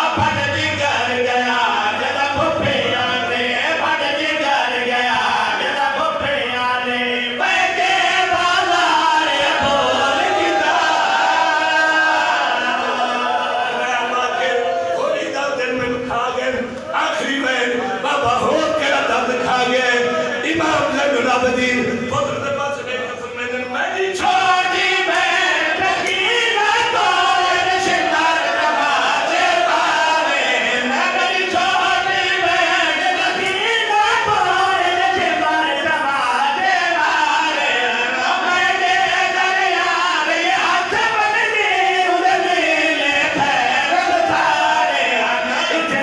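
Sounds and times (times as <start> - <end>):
men chanting in unison: 0.0 - 46.0.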